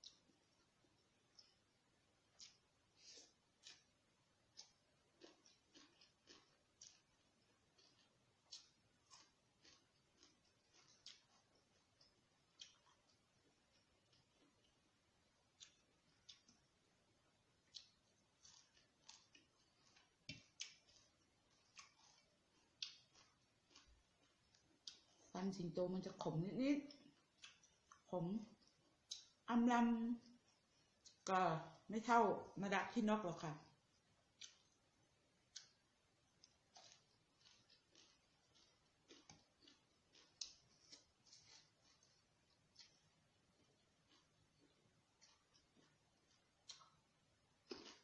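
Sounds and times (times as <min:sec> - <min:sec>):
chewing raw vegetables: 0:00.0 - 0:29.5, 0:33.2 - 0:48.0.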